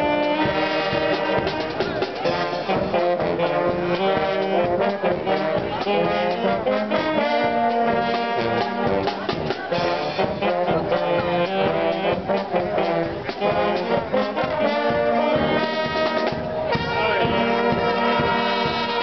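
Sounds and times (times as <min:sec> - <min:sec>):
brass band playing: 0:00.0 - 0:19.0.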